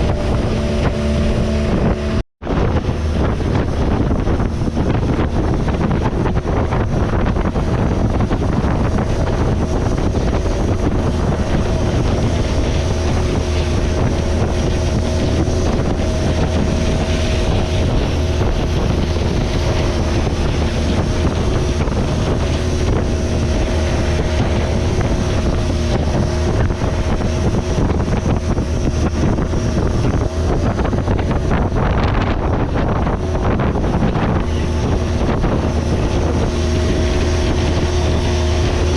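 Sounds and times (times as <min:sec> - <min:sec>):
boat engine running: 0:00.0 - 0:38.9
wind buffeting microphone: 0:00.0 - 0:38.9.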